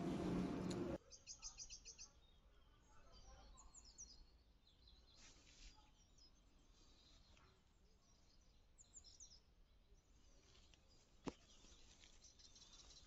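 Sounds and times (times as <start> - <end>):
faint outdoor background noise: 0.0 - 13.0
faint bird chirps: 0.1 - 13.0.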